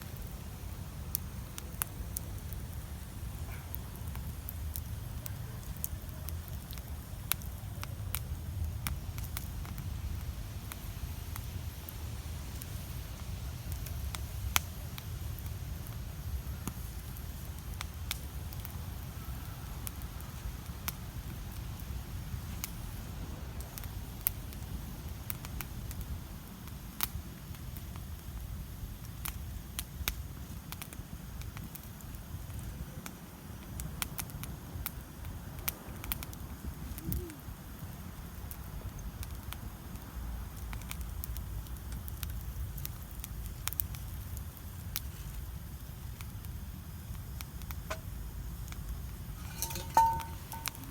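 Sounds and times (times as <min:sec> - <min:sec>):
campfire crackling and popping: 0:00.0 - 0:50.9
low fire rumble: 0:00.0 - 0:50.9.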